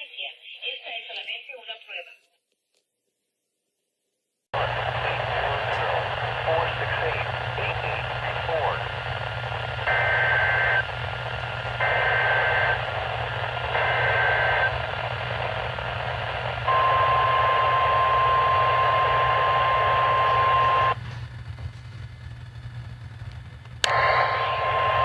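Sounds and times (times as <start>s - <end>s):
radio static hiss: 4.6s - 25.0s.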